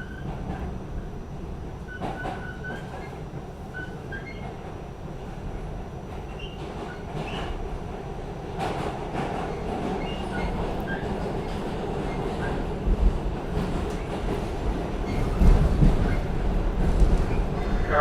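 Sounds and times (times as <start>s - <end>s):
subway train wheels rumbling on rail: 0.0s - 18.0s.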